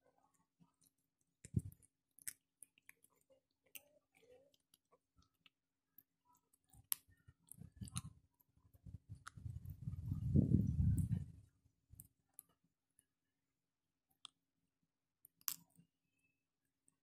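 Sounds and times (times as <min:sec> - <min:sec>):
kittens chewing and crunching: 0:00.0 - 0:13.2, 0:15.2 - 0:16.0.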